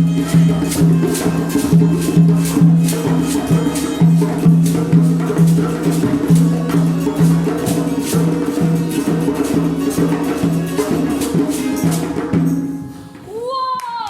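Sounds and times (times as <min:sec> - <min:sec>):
children's percussion ensemble: 0:00.0 - 0:14.0.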